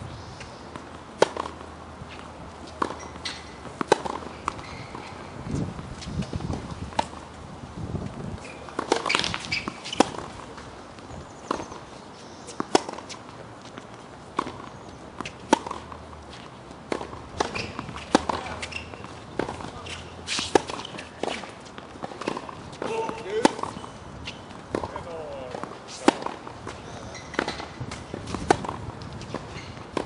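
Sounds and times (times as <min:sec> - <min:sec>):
tennis ball bouncing on court: 0:00.7 - 0:05.4, 0:06.0 - 0:07.3, 0:08.0 - 0:11.9, 0:12.5 - 0:30.0
tennis ball struck by rackets: 0:00.7 - 0:05.4, 0:06.0 - 0:07.2, 0:08.6 - 0:10.6, 0:12.5 - 0:30.0.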